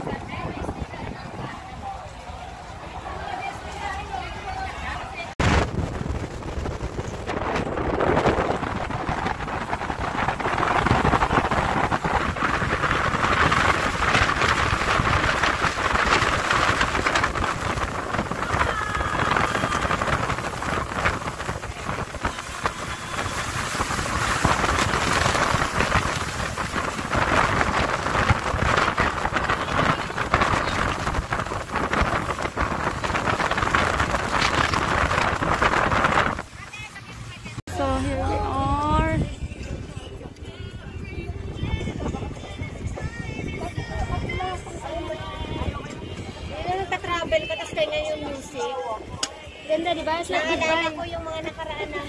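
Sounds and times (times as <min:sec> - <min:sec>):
water rushing along hull: 0:00.0 - 0:52.0
wind buffeting microphone: 0:00.0 - 0:52.0.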